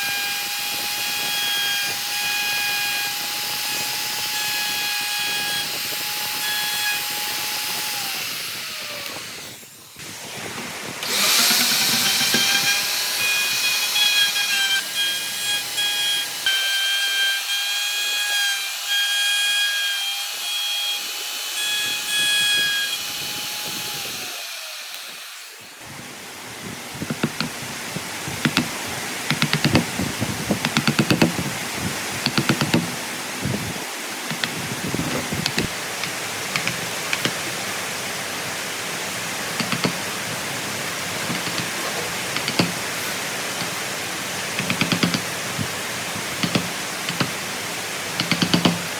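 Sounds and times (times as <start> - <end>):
electric power tool whining: 0.0 - 48.9.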